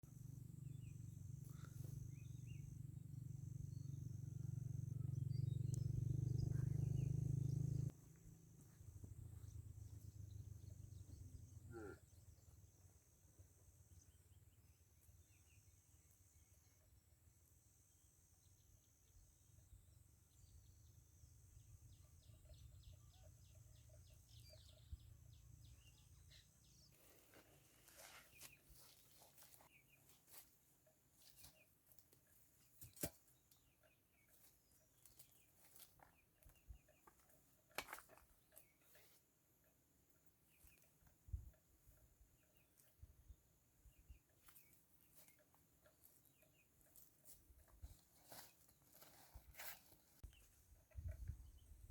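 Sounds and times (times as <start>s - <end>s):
bird chirping: 0.0s - 17.0s, 18.3s - 30.4s, 32.6s - 51.9s.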